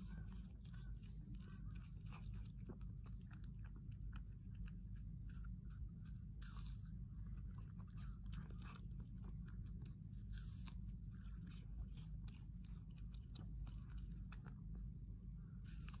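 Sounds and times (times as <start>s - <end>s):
animal crunching food: 0.0s - 16.0s.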